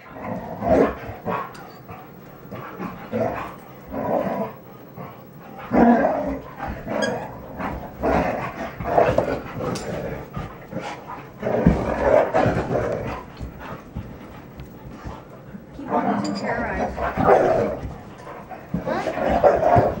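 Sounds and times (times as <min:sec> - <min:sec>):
dogs play-barking: 0:00.0 - 0:20.0
dogs scuffling and thudding: 0:00.0 - 0:20.0.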